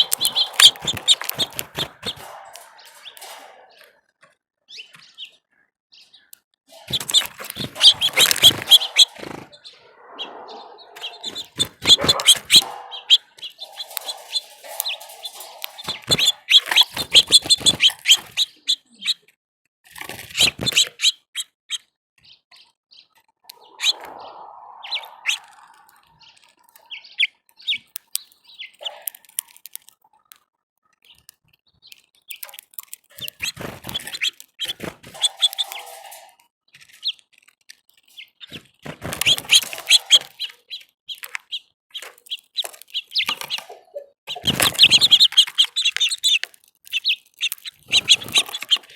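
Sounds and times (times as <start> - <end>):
songbirds chirping: 0.0 - 19.3, 20.0 - 37.2, 37.9 - 48.9.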